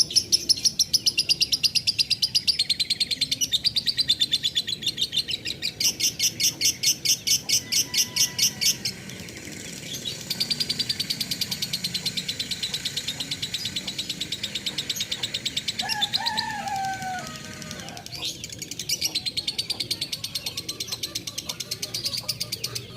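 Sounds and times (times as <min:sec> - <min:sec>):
lovebird chattering song: 0:00.0 - 0:22.9.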